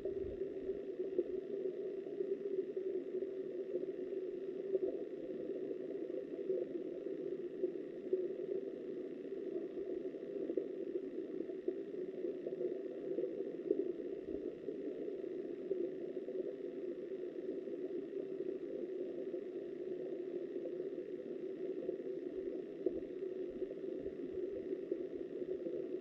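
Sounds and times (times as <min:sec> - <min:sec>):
faint ticks: 0:00.0 - 0:26.0.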